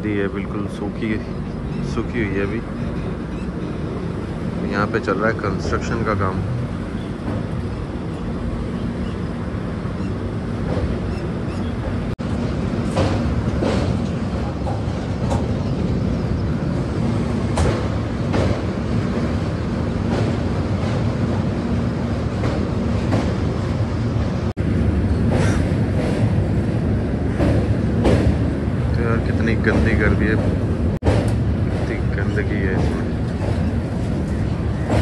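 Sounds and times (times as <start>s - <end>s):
train wheels rumbling on rail: 0.0s - 35.0s
wheels clacking over rail joints: 1.2s - 23.9s, 24.9s - 35.0s.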